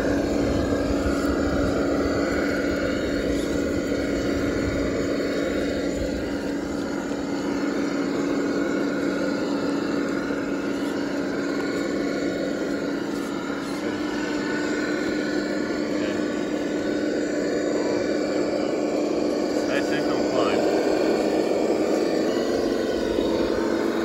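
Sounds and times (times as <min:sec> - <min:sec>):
electric motor and gearbox whining: 0:00.0 - 0:24.0.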